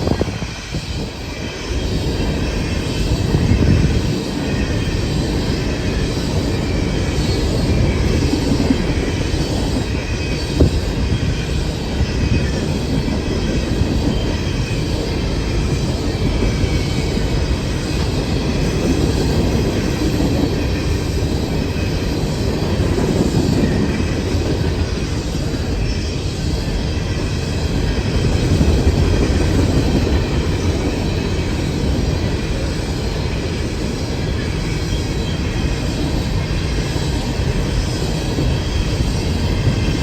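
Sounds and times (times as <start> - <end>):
faint high wheel squeal: 0.0 - 40.0
train wheels rumbling on rails: 0.0 - 40.0.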